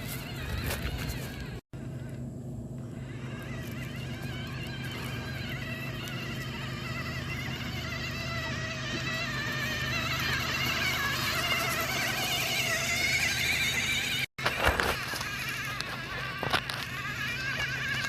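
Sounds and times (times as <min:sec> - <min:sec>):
small electric motors whining: 0:00.0 - 0:18.0.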